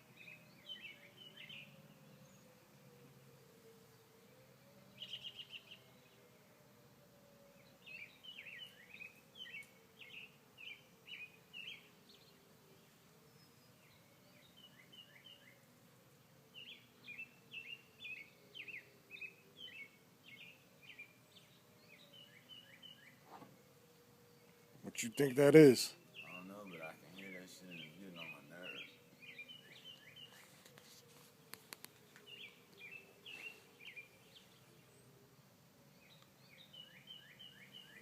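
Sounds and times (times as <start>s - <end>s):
songbird chirping: 0.0s - 38.0s.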